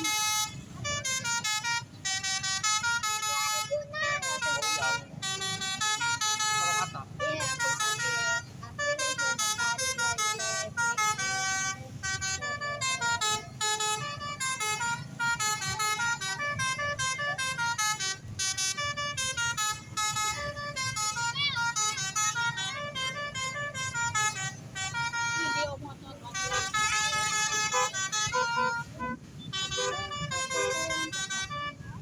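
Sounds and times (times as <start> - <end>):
multi-tone bus horn melody: 0.0 - 32.0.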